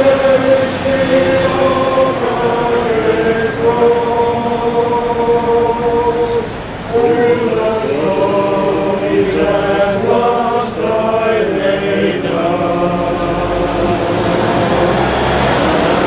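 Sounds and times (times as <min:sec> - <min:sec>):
brass band playing slow chords: 0:00.0 - 0:16.0.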